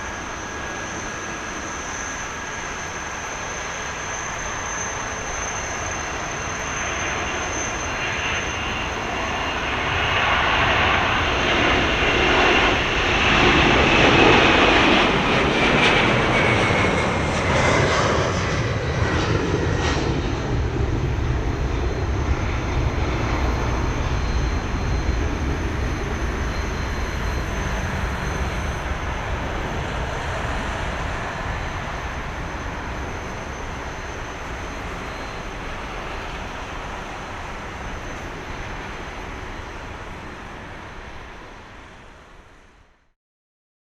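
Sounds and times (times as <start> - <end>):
jet engines passing by: 0.0 - 42.8.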